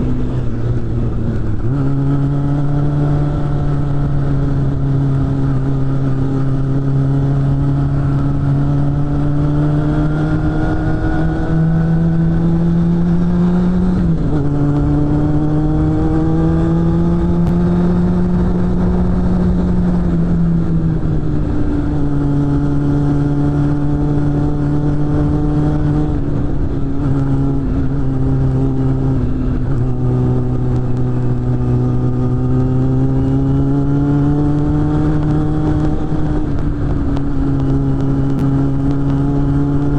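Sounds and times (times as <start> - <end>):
motorcycle engine revving under load: 0.0 - 39.9.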